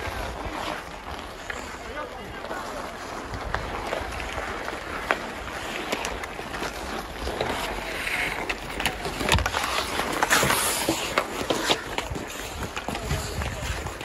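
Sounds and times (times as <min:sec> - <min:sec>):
skates scraping on ice: 0:00.0 - 0:14.0
hockey sticks clacking: 0:00.1 - 0:14.0.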